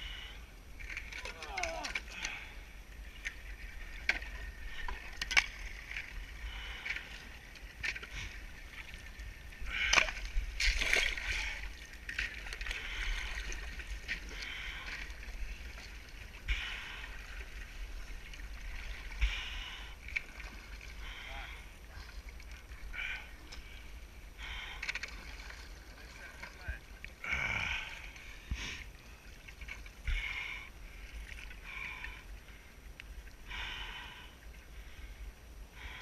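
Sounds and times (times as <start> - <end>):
water sloshing and splashing: 0.0 - 35.1.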